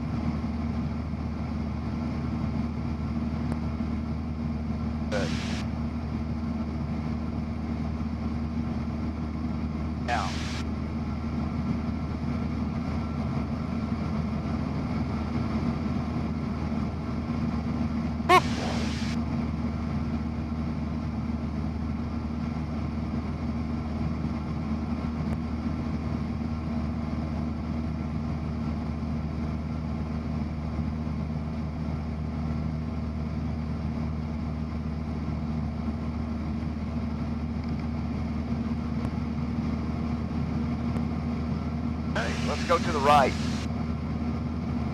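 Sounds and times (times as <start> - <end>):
propeller plane engine droning: 0.0 - 44.9.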